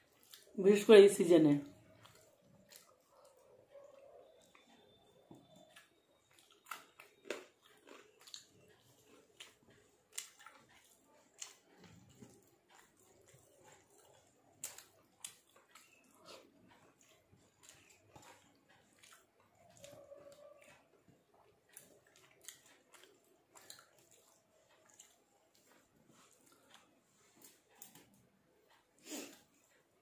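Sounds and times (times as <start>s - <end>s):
soft chewing: 0.0s - 30.0s.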